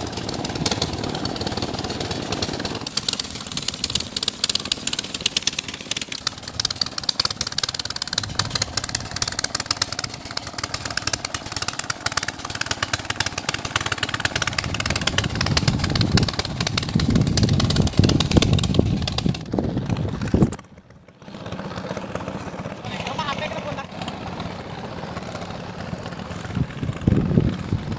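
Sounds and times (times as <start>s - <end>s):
small engine running: 0.0s - 27.9s.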